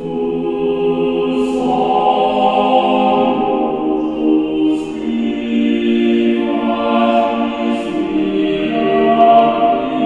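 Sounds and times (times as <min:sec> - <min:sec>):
choir singing unaccompanied: 0:00.0 - 0:10.0.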